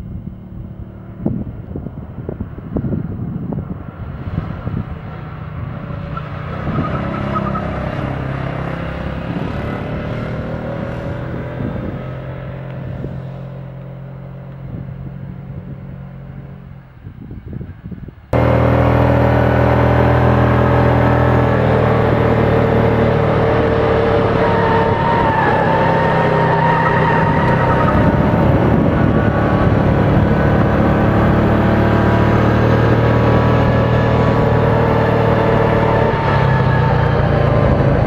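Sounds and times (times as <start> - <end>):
loud close engine: 0.0 - 17.6, 18.3 - 38.0.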